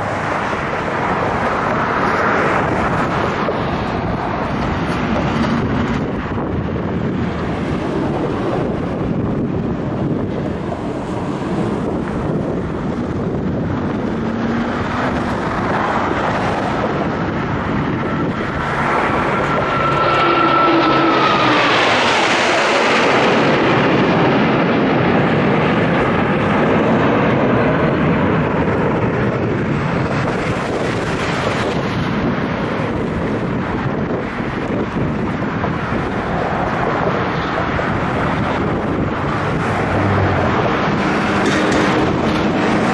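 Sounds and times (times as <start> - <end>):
high jet whine dropping in pitch: 0.0 - 42.9
jet aircraft passing by: 0.0 - 42.9.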